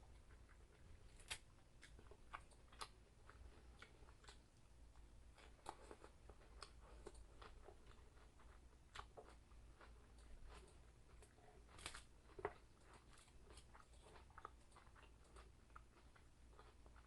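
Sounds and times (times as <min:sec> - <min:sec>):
person chewing: 0:00.1 - 0:17.0.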